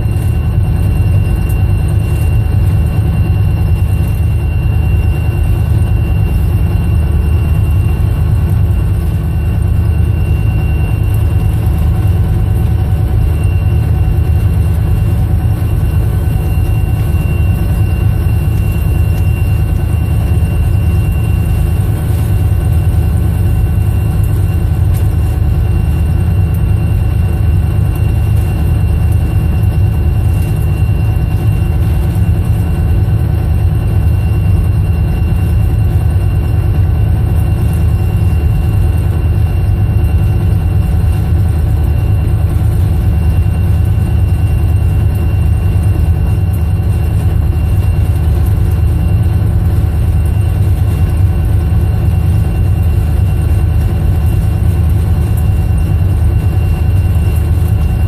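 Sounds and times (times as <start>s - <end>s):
diesel locomotive engine drone: 0.0s - 58.0s
faint thin whine: 0.0s - 58.0s.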